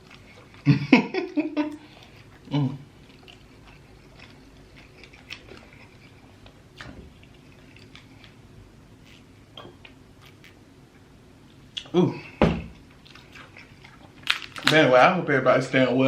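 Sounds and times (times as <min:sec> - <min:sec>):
person chewing: 0:00.0 - 0:14.8.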